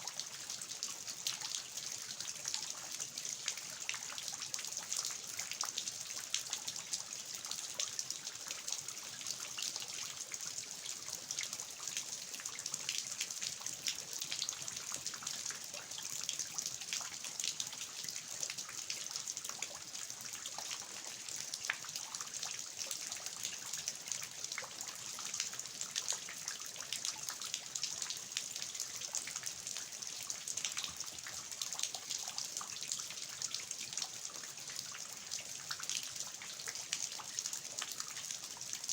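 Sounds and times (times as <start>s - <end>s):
water trickling off eaves: 0.1s - 38.9s.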